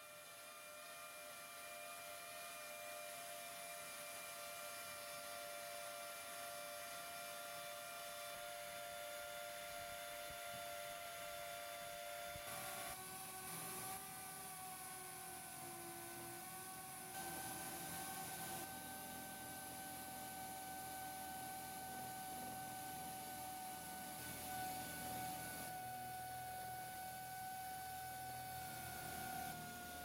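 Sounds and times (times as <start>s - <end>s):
milling machine motor whining: 0.1s - 30.0s.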